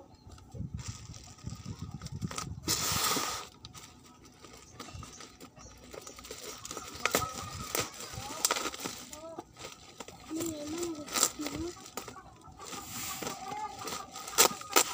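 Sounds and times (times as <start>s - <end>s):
plastic crinkling: 0.7s - 14.9s
plastic wrapping tearing: 0.8s - 14.9s.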